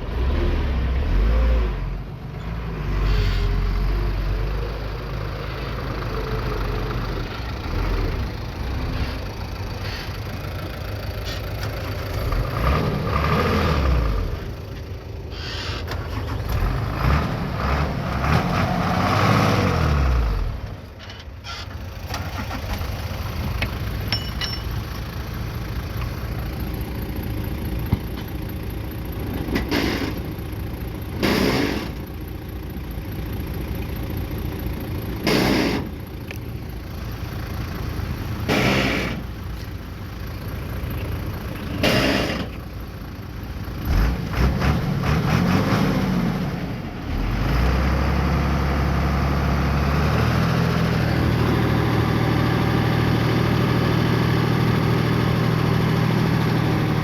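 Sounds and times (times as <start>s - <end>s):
bulldozer engine under load: 0.0s - 57.0s.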